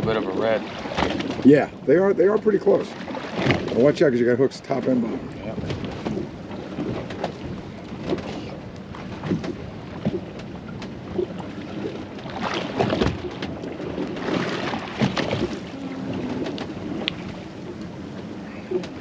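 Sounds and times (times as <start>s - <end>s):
water against hull: 0.0s - 19.0s.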